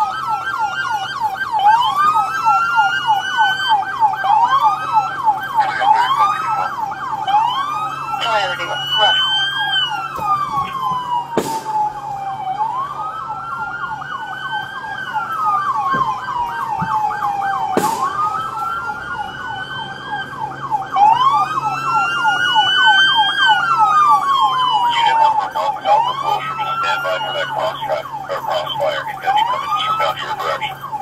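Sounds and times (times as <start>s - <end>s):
police siren wailing: 0.0s - 31.0s
police siren warbling rapidly: 0.0s - 31.0s.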